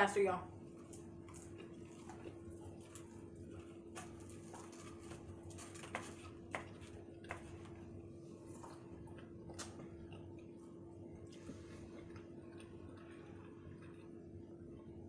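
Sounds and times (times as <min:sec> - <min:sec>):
faint steady hum: 0:00.0 - 0:15.0
chewing close to microphone: 0:00.6 - 0:15.0.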